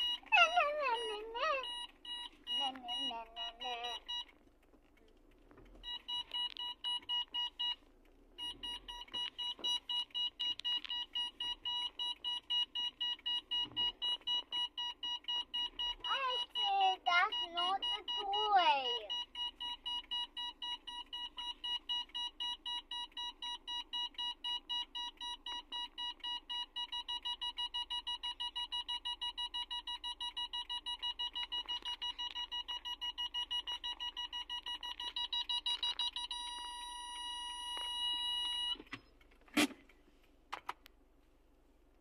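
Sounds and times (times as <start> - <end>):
parking sensor beeping: 0.0 - 39.3.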